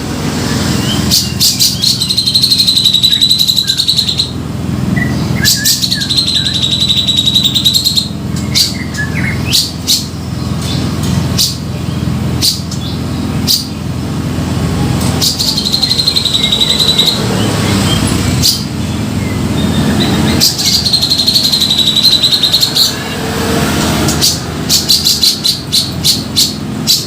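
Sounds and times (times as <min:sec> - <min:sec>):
steady low hum: 0:00.0 - 0:27.0
bird chipping notes: 0:00.4 - 0:14.0, 0:14.6 - 0:27.0
bird rattling trills: 0:00.9 - 0:04.4, 0:05.0 - 0:11.6, 0:15.0 - 0:27.0.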